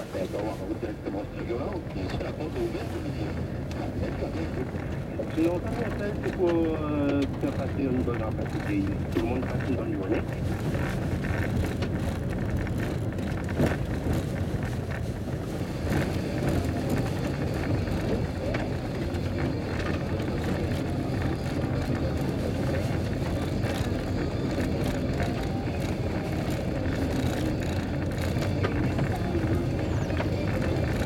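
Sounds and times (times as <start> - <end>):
car engine and tyres rumbling: 0.0 - 31.0
gravel clicks and knocks: 4.5 - 31.0.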